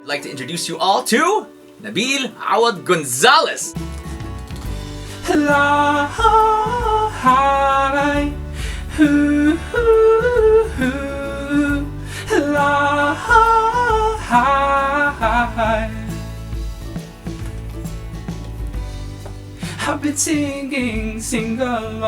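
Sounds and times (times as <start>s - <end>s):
instrumental accompaniment: 0.0s - 22.0s.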